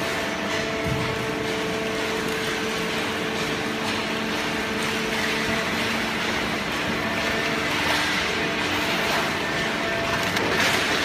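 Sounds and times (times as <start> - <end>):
baler machine humming: 0.0 - 11.0.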